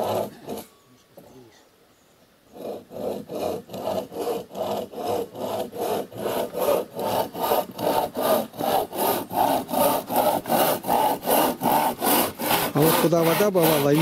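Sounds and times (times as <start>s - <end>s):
hand saw cutting wood: 0.0s - 1.3s, 2.5s - 14.0s.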